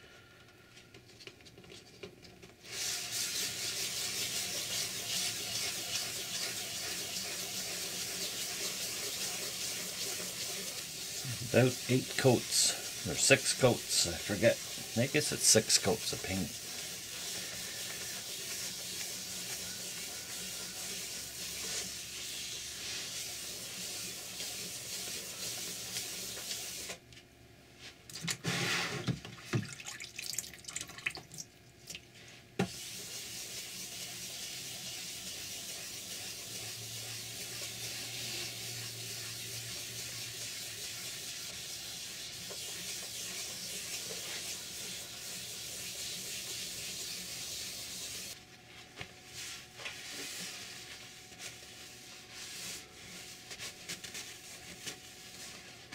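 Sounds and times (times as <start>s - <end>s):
sandpaper scrubbing on paint: 2.6s - 26.9s, 32.7s - 48.4s, 49.3s - 55.9s
sandpaper being handled: 2.6s - 27.0s, 32.7s - 55.9s.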